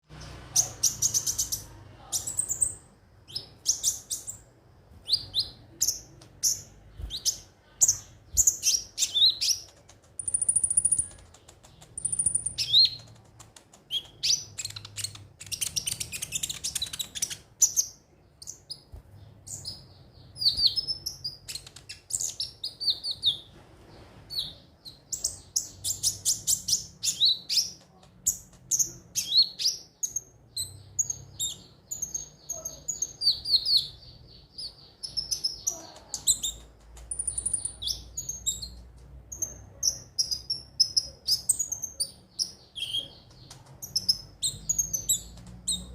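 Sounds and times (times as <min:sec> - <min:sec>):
bird chirping and trilling: 0:00.1 - 0:13.2, 0:13.9 - 0:23.5, 0:24.3 - 0:45.9.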